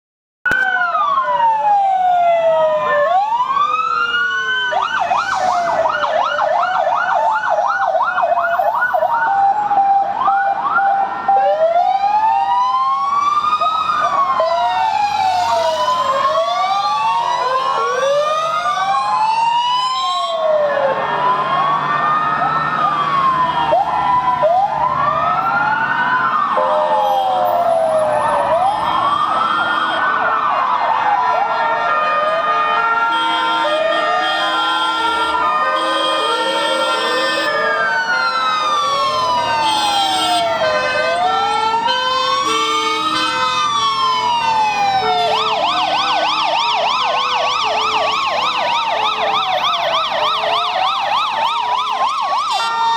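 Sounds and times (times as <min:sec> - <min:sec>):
siren rapid yelp: 0:00.5 - 0:52.9
sirens wailing: 0:00.5 - 0:52.9.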